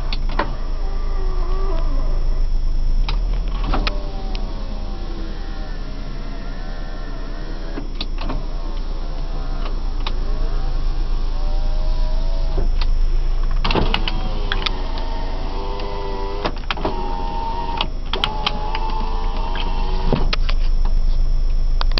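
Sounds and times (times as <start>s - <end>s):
low hum in car cabin: 0.0s - 21.9s
small electric motor whining: 0.1s - 13.0s, 13.8s - 20.4s.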